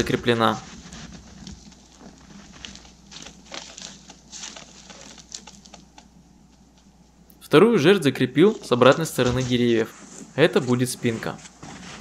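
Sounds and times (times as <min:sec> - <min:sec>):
rustling and crunching in snow: 0:00.0 - 0:05.9, 0:08.2 - 0:12.0.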